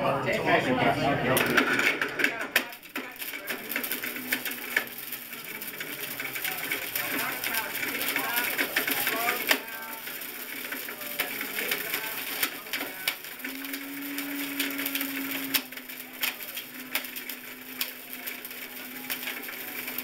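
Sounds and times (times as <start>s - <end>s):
blender motor hum: 2.7s - 20.0s.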